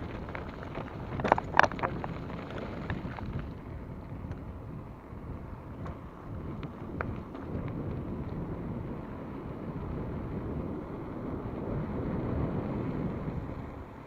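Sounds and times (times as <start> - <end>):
tyres rumbling on dirt trail: 0.0 - 14.0
wind buffeting camera: 0.0 - 14.0.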